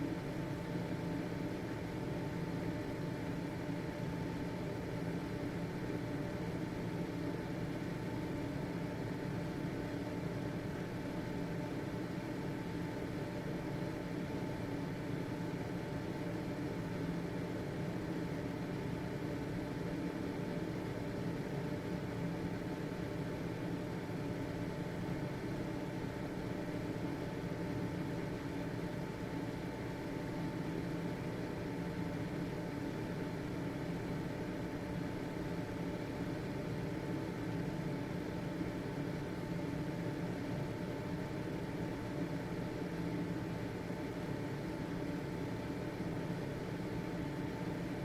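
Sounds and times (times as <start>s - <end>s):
ventilation fan running: 0.0s - 48.0s.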